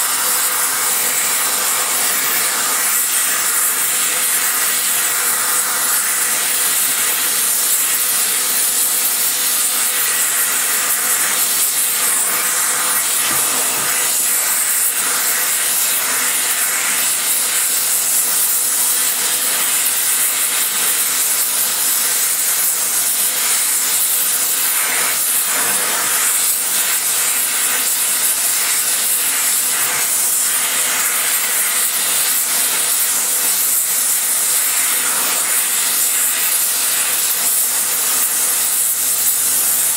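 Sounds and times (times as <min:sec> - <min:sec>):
welding torch flame hissing: 0:00.0 - 0:39.9.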